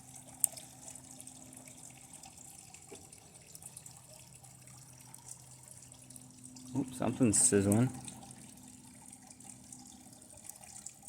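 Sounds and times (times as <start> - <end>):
faint electrical ticks: 0.0 - 11.0.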